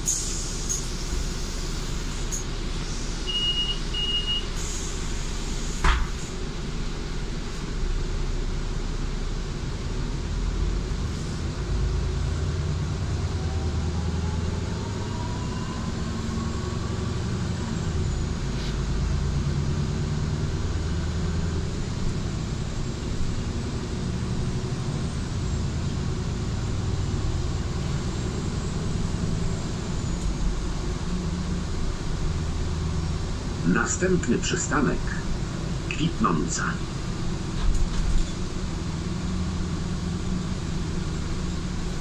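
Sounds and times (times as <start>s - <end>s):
bus engine rumble: 0.0s - 42.0s
road noise: 0.0s - 42.0s.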